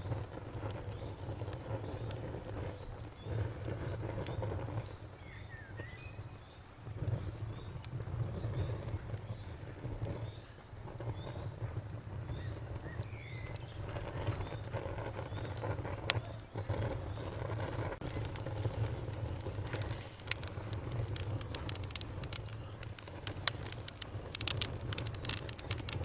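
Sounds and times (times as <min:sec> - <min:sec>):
campfire crackling and popping: 0:00.0 - 0:26.0
cricket chirping: 0:00.0 - 0:26.0.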